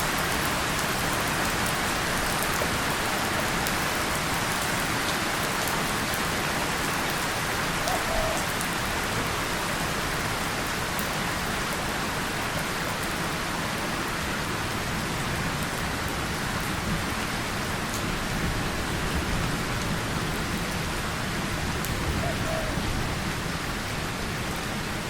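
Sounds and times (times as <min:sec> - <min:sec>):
rain on a tin surface and leaves: 0:00.0 - 0:25.0.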